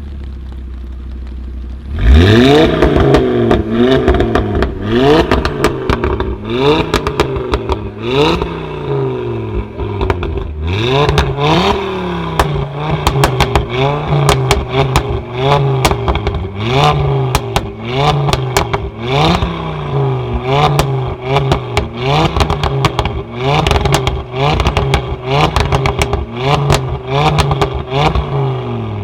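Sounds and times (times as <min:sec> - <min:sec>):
exhaust crackles and pops: 0:00.0 - 0:29.0
car engine revving: 0:00.2 - 0:29.0.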